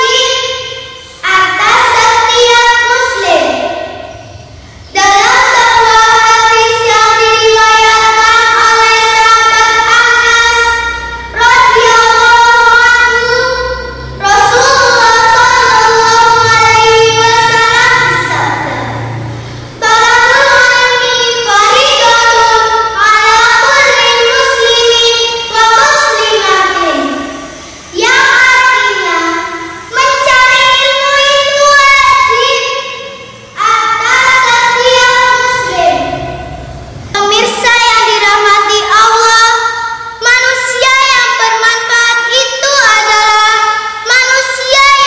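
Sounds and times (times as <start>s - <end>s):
girl singing: 0.0s - 4.0s, 4.8s - 36.6s, 37.2s - 45.0s.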